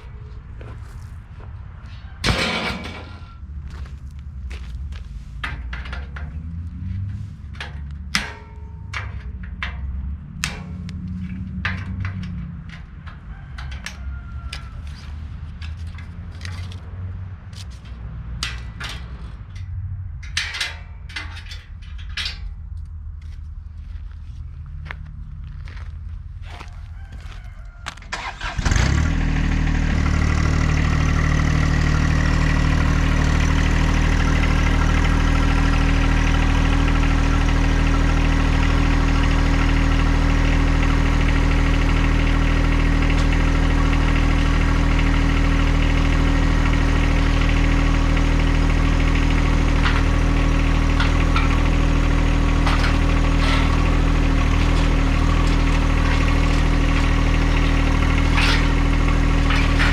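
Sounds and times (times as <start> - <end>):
tractor engine idling: 0.0 - 16.9, 25.4 - 59.9.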